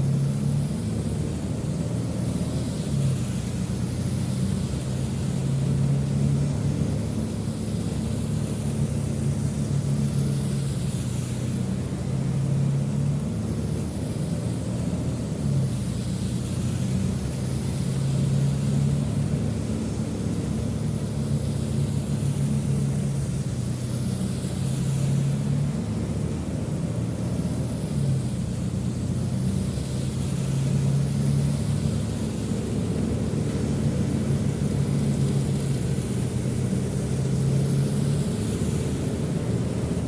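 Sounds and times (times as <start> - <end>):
road hiss: 0.0 - 40.0
traffic engine hum: 0.0 - 40.0.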